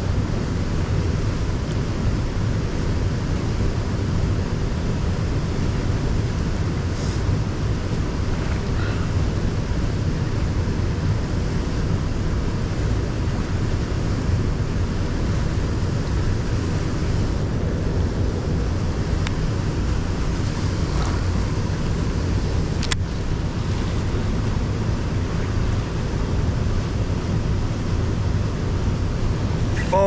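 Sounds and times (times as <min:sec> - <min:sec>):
river water rushing: 0:00.0 - 0:17.5, 0:18.1 - 0:30.0
wind: 0:00.0 - 0:30.0.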